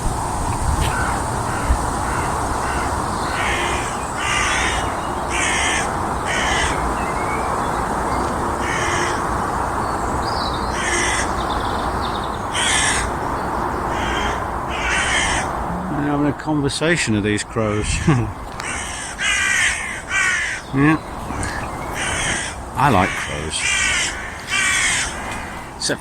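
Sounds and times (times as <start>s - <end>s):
crows cawing: 0.0s - 26.0s.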